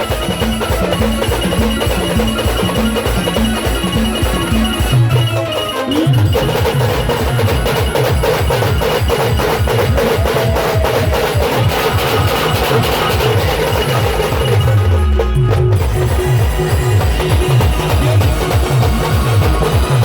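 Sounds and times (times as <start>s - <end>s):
loud band music: 0.0s - 20.0s.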